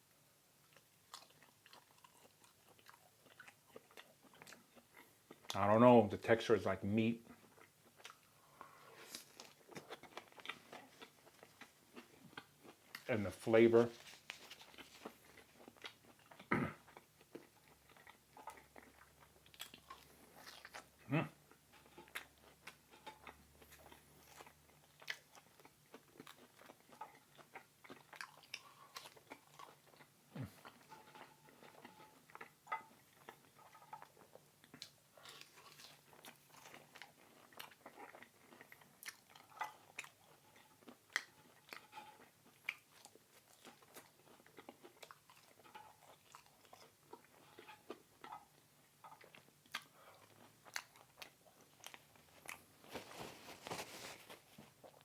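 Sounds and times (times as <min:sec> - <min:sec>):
person chewing food: 0:00.6 - 0:05.6, 0:07.2 - 0:55.0.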